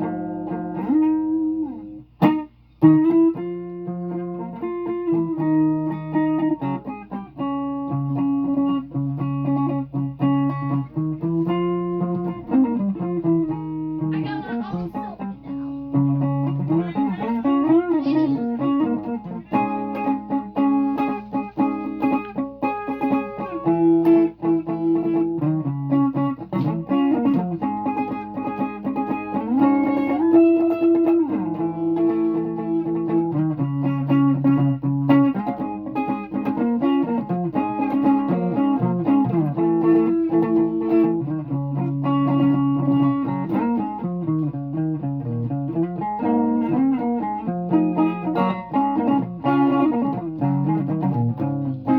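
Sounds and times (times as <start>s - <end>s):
guitar playing bent notes: 0.0s - 51.9s.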